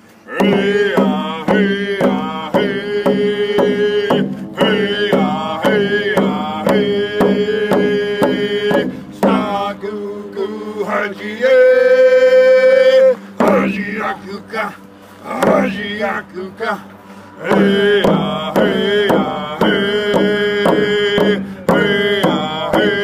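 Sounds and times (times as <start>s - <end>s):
men singing: 0.2s - 23.0s
frame drums beaten with sticks: 0.3s - 23.0s.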